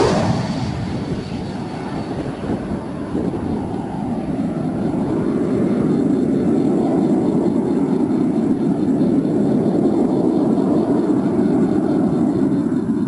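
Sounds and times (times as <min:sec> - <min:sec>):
airplane engine flying over: 0:00.0 - 0:13.0.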